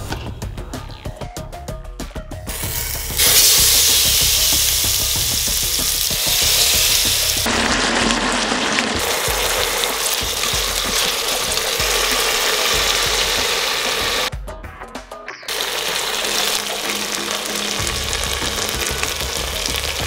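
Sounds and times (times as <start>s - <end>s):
prawns sizzling in hot oil: 2.5s - 14.3s, 15.5s - 20.0s.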